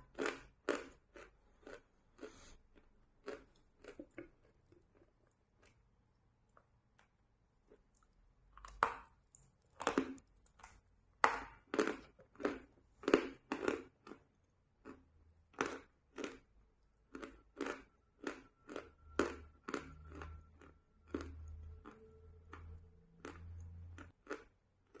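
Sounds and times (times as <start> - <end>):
crunchy chewing of chalk: 0.0 - 16.5, 17.1 - 25.0.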